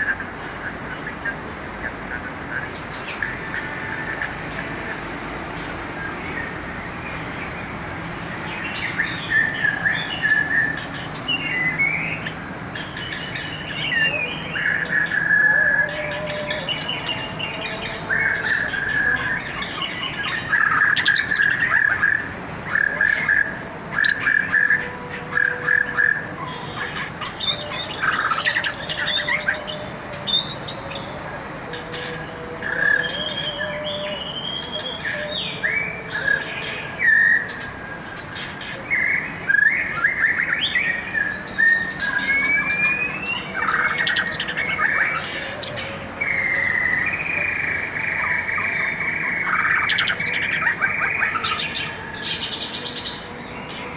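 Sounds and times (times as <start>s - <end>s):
songbird singing trills: 1.0s - 5.0s, 5.6s - 53.9s.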